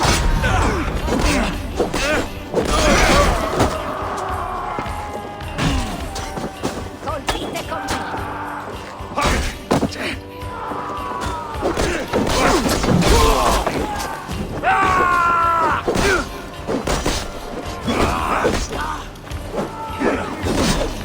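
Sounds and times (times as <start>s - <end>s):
fighters shouting: 0.0s - 21.0s
game music score: 0.0s - 21.0s.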